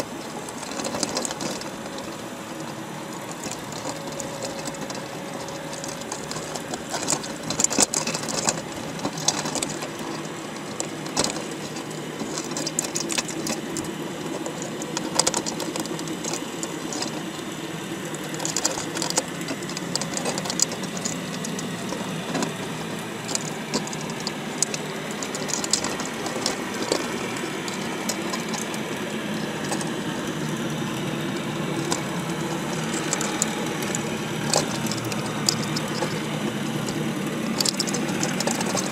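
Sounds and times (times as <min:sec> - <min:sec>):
crab shells clicking on wire: 0:00.0 - 0:38.9
low mechanical hum underwater: 0:00.0 - 0:38.9.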